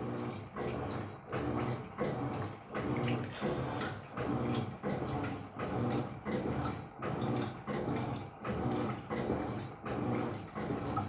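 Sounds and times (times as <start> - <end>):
washing machine agitating: 0.0 - 11.0.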